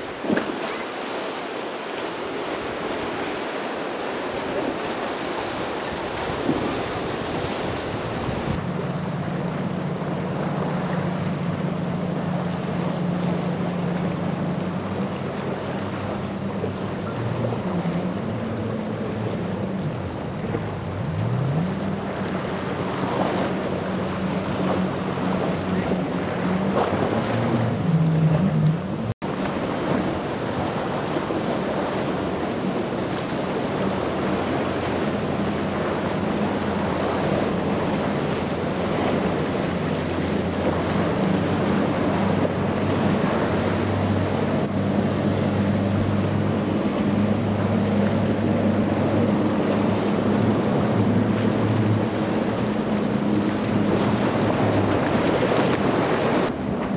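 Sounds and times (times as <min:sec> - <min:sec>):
boat engine drone: 0:00.0 - 0:56.9
rush of spray and wake: 0:00.0 - 0:56.9
wind on microphone: 0:04.1 - 0:56.9.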